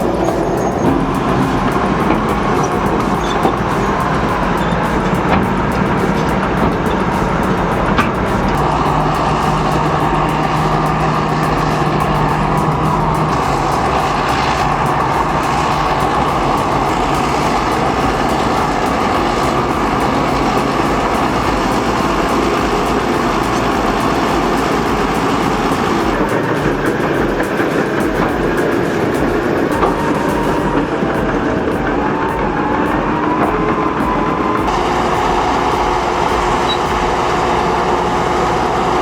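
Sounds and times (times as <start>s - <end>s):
heavy diesel machinery engines: 0.0s - 39.0s
low hum: 0.0s - 39.0s.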